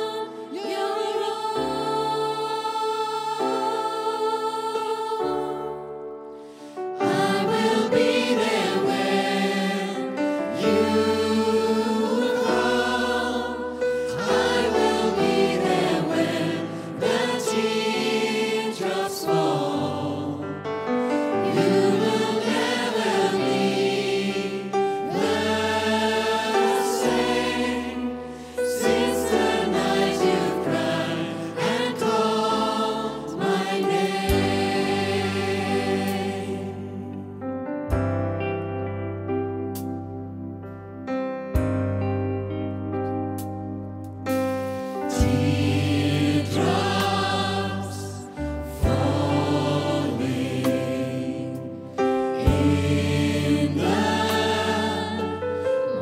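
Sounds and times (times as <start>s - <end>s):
gospel choir singing: 0.0s - 37.6s, 44.3s - 56.0s
musical accompaniment: 0.0s - 56.0s.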